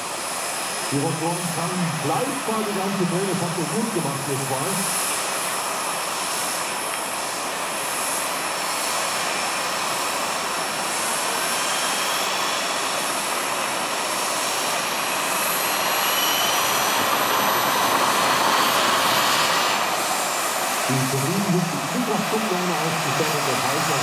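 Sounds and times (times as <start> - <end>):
helicopter turbine engines spooling up: 0.0 - 24.0
jet hiss with high-pitched whines: 0.0 - 24.0.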